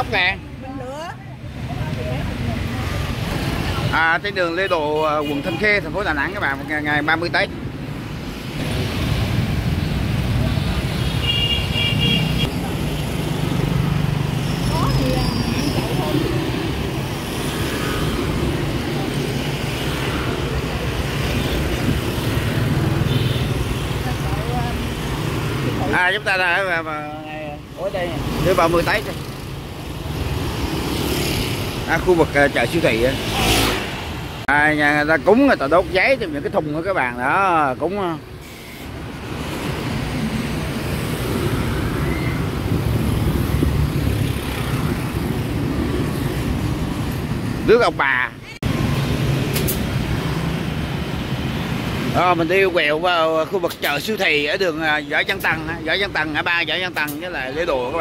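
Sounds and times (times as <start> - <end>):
passing vehicle engines: 0.0 - 58.0
tyres on road: 0.0 - 58.0.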